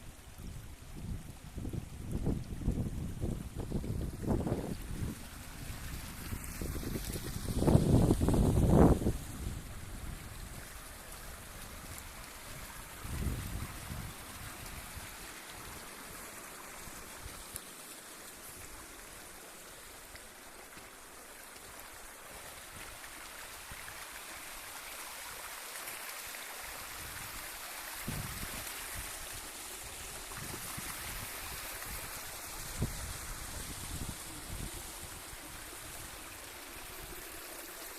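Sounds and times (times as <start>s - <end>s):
brook babbling over stones: 0.0s - 37.9s.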